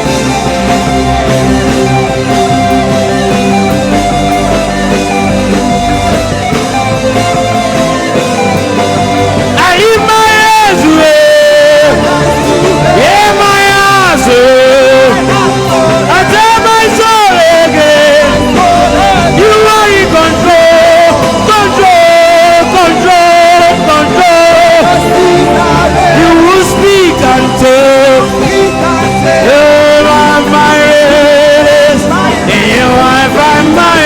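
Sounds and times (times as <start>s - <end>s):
low bass: 0.0s - 34.0s
person singing: 0.0s - 34.0s
sustained keyboard chords: 0.0s - 34.0s.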